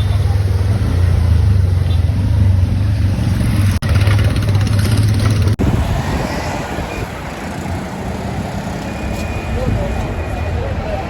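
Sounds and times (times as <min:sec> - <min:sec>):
road noise: 0:00.0 - 0:11.0
vehicle engine low rumble: 0:00.0 - 0:11.0.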